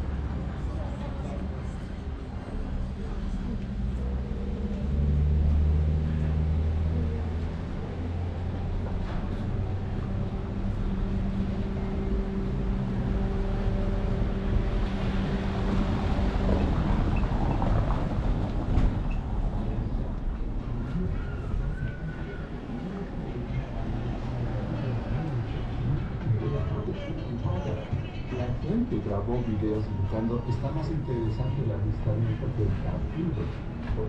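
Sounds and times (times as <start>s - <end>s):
traffic noise: 0.0s - 34.0s.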